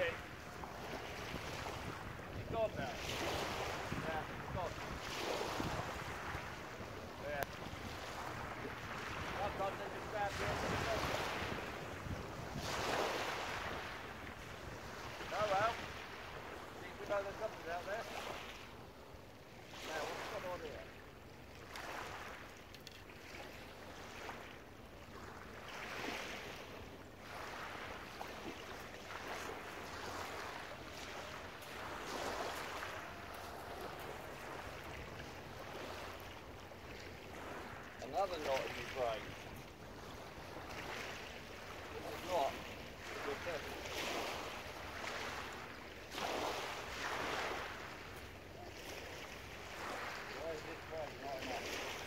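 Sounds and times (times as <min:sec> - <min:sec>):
waves lapping on shingle: 0:00.0 - 0:52.0.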